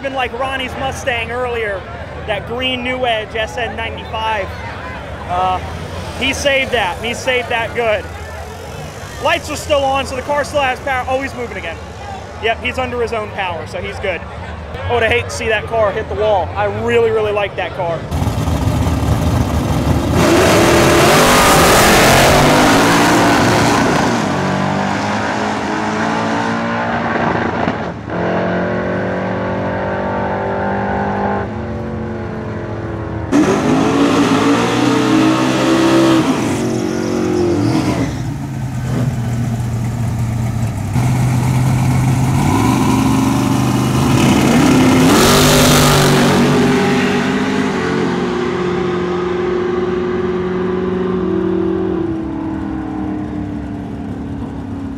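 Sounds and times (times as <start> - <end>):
race car engines revving: 0.0 - 54.9.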